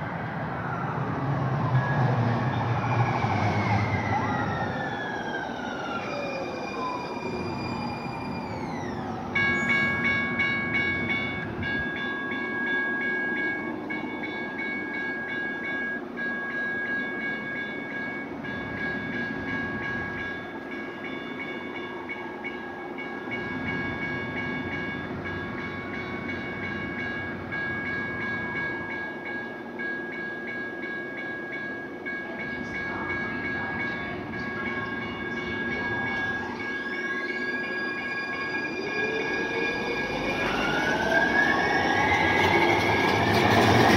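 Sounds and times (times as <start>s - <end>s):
train electrical whine: 0.0s - 43.9s.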